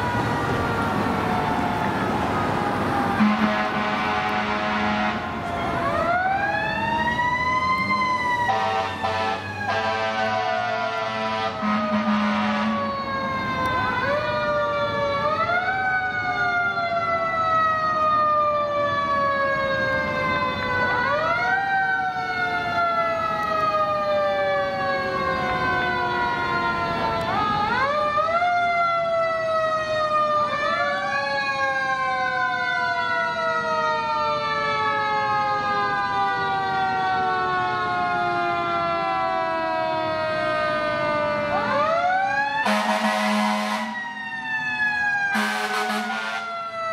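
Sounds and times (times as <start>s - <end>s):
fire engine sirens wailing: 0.0s - 46.9s.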